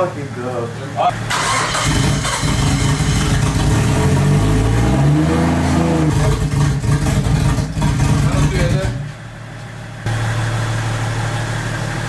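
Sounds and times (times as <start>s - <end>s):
car engine revving and idling: 0.1s - 12.0s.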